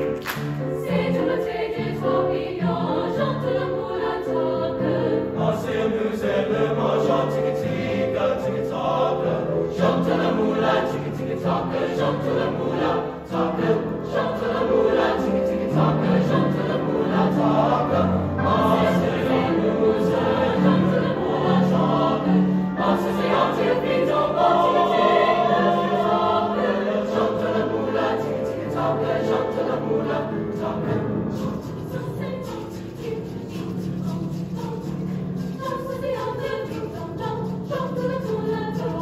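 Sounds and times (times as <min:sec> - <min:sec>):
grand piano: 0:00.0 - 0:39.0
mixed choir singing in parts: 0:00.0 - 0:39.0.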